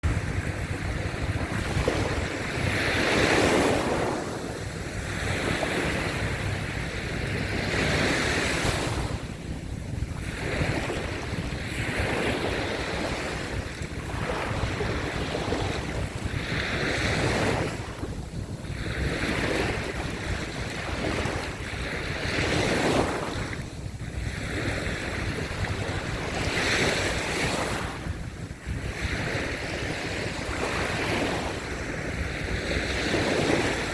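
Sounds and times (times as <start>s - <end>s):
ocean waves breaking on beach: 0.0s - 33.9s
wind on microphone: 0.0s - 33.9s.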